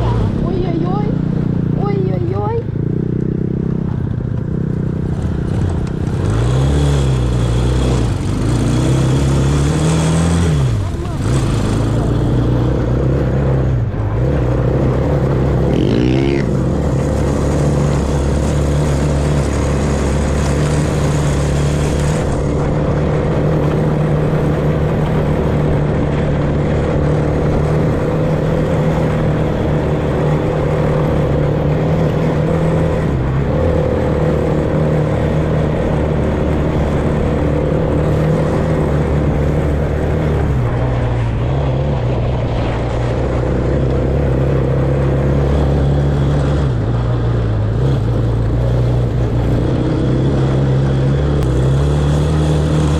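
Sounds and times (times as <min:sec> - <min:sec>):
off-road vehicle engine running: 0:00.0 - 0:52.9.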